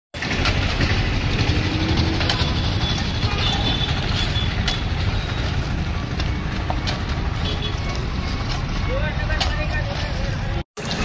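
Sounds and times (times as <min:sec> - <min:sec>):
vehicle engine and traffic rumble: 0:00.2 - 0:11.0.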